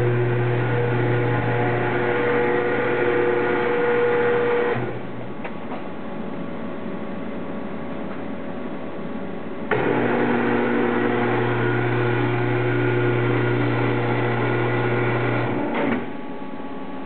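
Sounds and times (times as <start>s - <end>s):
industrial machine hum: 0.0s - 17.0s.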